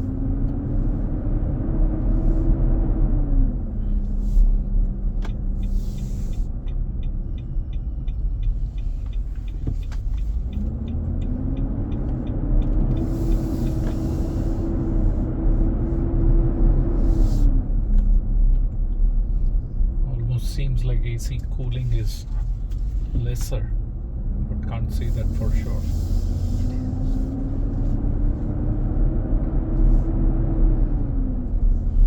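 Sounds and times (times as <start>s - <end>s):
engine fan roaring in car cabin: 0.0s - 32.0s.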